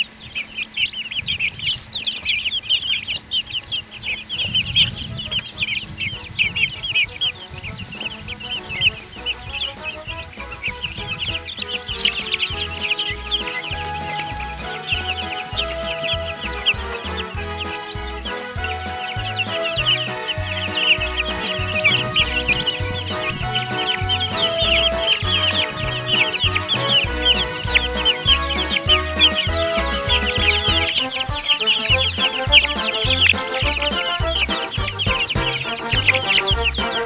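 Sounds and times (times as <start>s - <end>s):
baby chicks peeping: 0.0s - 37.0s
background music with bass: 6.4s - 37.0s.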